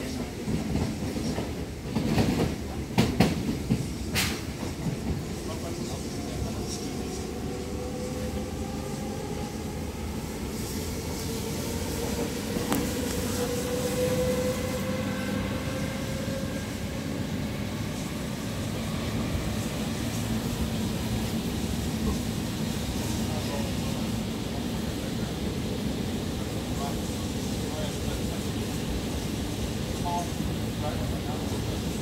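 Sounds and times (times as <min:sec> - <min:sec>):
passing train: 0:00.0 - 0:32.0
wheels rumbling on rail: 0:00.0 - 0:32.0.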